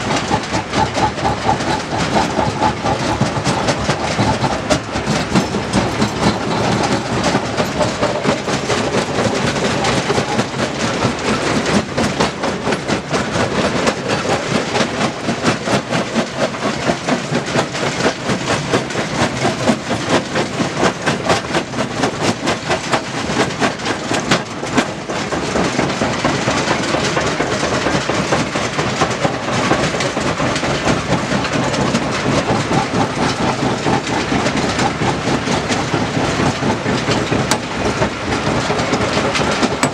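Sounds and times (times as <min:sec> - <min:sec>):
stone-working machinery clattering: 0:00.0 - 0:39.9.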